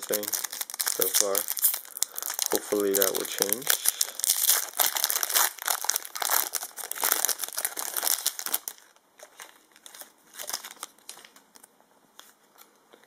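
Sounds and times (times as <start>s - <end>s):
foil wrapper crinkling and tearing: 0.0s - 11.7s.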